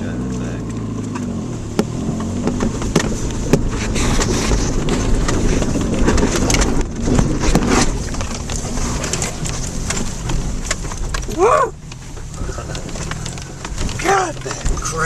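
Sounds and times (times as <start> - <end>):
car knocking and rattling: 0.0 - 15.0
tyres and engine rumbling: 0.0 - 15.0.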